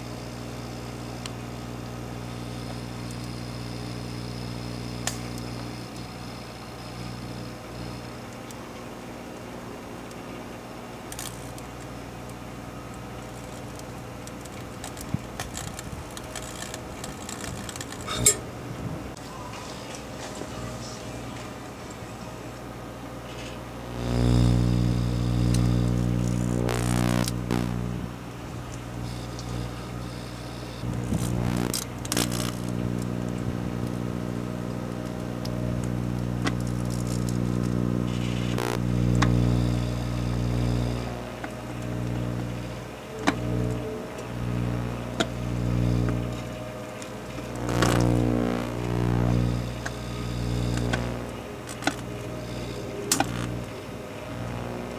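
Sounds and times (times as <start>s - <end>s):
microwave oven humming: 0.0s - 54.9s
crackles and clicks of burning: 1.1s - 2.0s, 2.6s - 6.1s, 7.8s - 18.4s, 23.3s - 54.9s.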